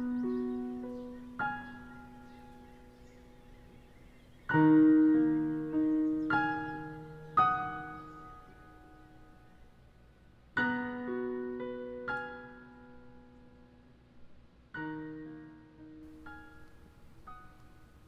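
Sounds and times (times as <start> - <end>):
slow solo piano chords: 0.0 - 18.0.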